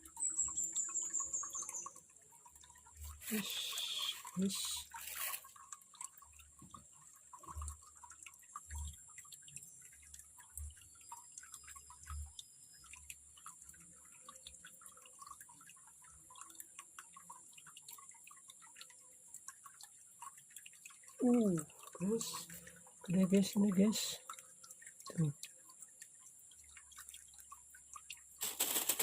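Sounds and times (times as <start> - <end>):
water dripping and trickling: 0.0 - 29.0.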